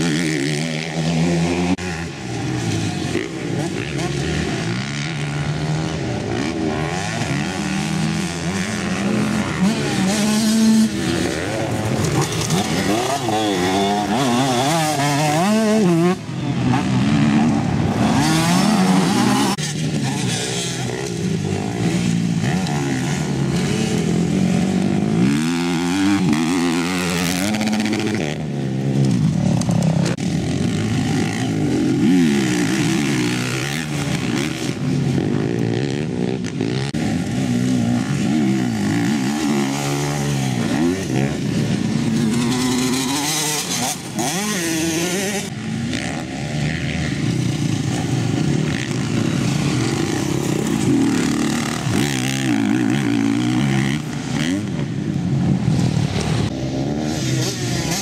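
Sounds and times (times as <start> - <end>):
motocross bikes revving: 0.0 - 58.0.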